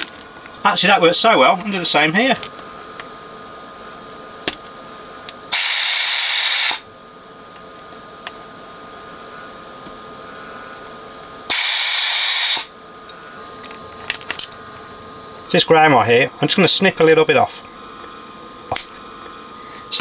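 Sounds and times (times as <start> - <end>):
vacuum pump buzzing hiss: 0.0 - 20.0.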